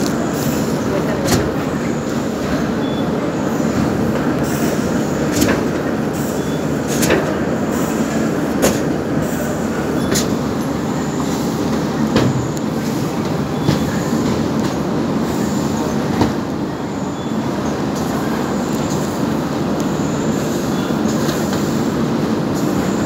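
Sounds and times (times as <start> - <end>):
conveyor and machinery rumble: 0.0 - 23.0.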